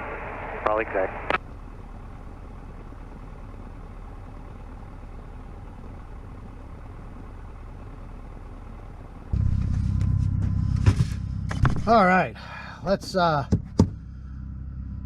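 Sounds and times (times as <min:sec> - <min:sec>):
airplane engine idling: 0:00.0 - 0:15.0.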